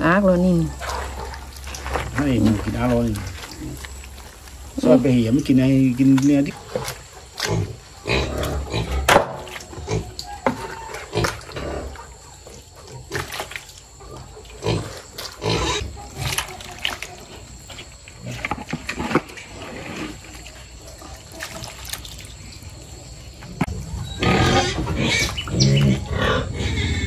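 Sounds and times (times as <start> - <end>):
pigs grunting: 0.0 - 27.0.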